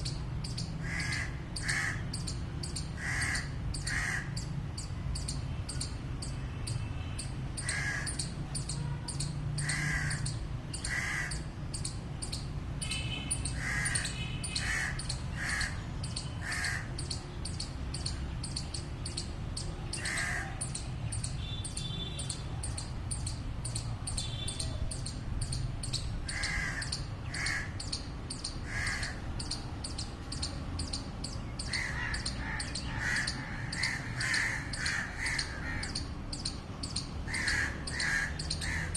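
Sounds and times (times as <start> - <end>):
squirrel alarm barks: 0.0 - 38.9.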